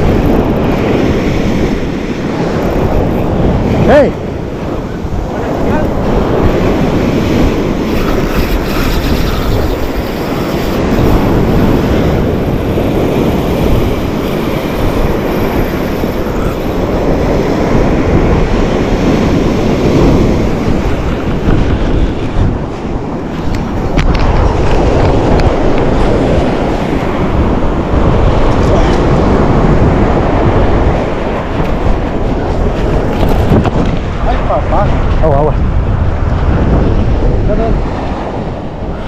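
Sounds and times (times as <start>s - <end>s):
ocean surf washing onto beach: 0.0s - 39.0s
wind on microphone: 0.0s - 39.0s.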